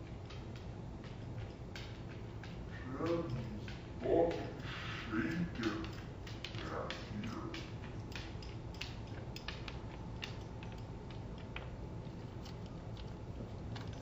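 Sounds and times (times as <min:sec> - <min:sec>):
dog eating clicks on floor: 0:00.0 - 0:14.0
low background hum: 0:00.0 - 0:14.0.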